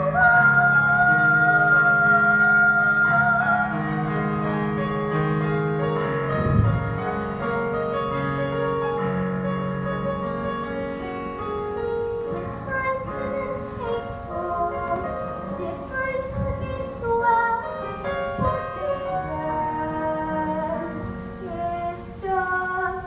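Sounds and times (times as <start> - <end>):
piano with held melody: 0.0 - 23.0.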